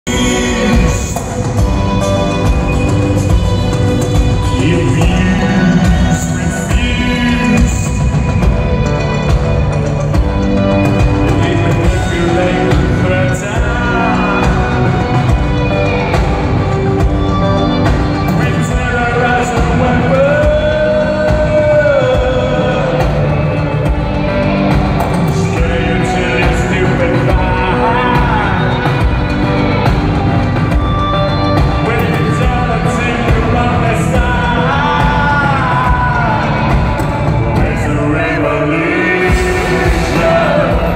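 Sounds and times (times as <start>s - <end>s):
man singing: 0.0s - 9.4s, 10.8s - 40.9s
live synth-rock band playing: 0.0s - 40.9s.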